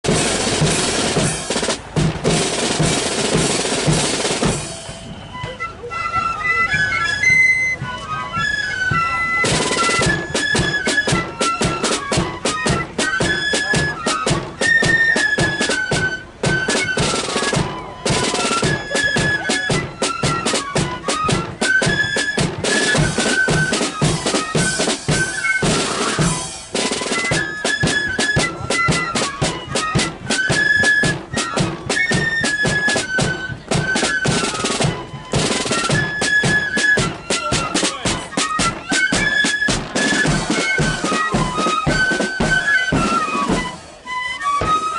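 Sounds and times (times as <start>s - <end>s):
snare drums: 0.0s - 44.9s
flutes playing melody: 0.1s - 44.9s.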